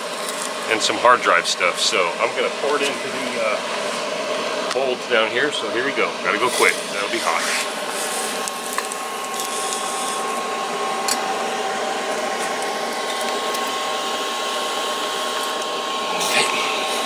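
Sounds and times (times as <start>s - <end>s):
hair dryer whirring: 0.0s - 17.0s.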